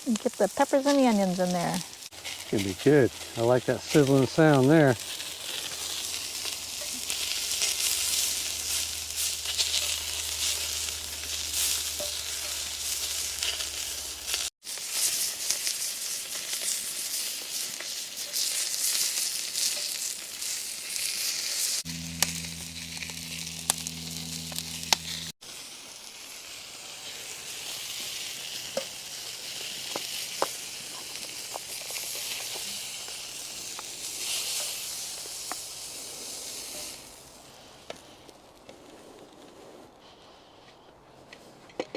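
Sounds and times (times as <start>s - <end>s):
food sizzling on a griddle: 0.0s - 38.2s.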